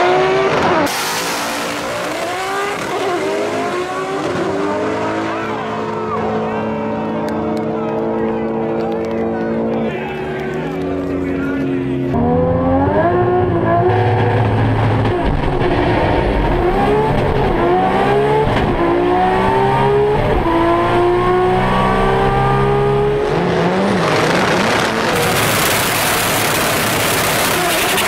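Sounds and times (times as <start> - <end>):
car engine at full throttle: 0.0 - 28.0
harsh loud engine noise: 0.0 - 28.0.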